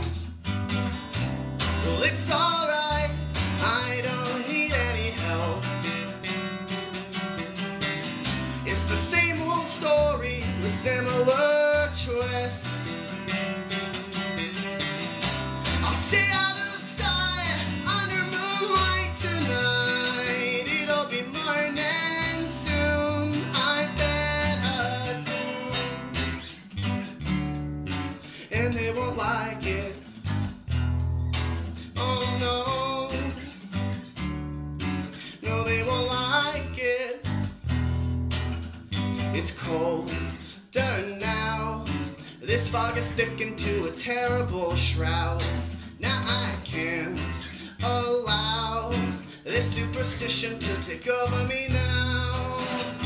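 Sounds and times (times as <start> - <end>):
electric bass line: 0.0 - 6.6, 14.4 - 20.2, 21.9 - 53.0
acoustic guitar: 0.0 - 53.0.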